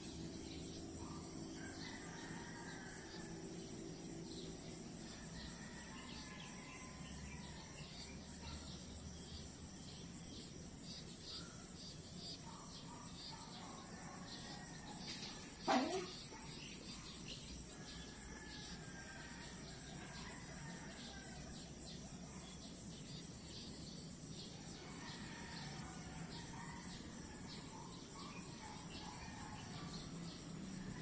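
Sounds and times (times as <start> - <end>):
crickets chirping: 0.0 - 31.0
high insect trill: 0.0 - 31.0.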